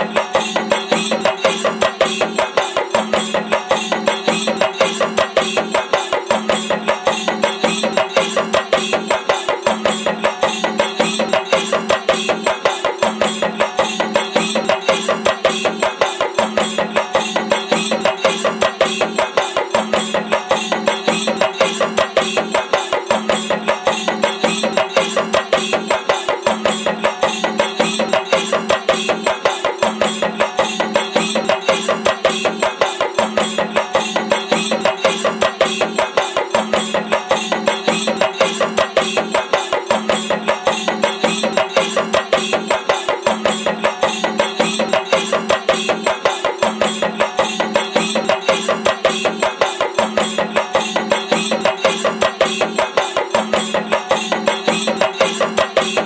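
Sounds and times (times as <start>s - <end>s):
drums beaten with sticks: 0.0s - 56.0s.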